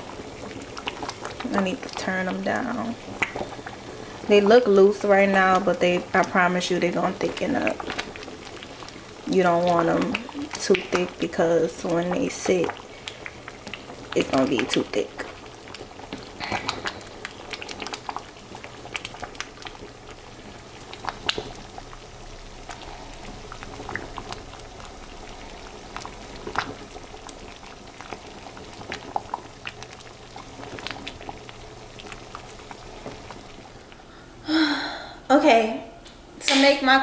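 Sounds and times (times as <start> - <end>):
beans bubbling and popping: 0.0 - 34.7.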